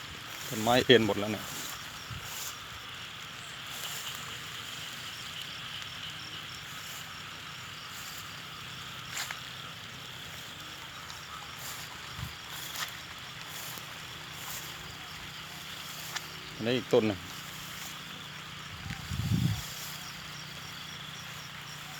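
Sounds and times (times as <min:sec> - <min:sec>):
steady outdoor hiss: 0:00.0 - 0:21.9.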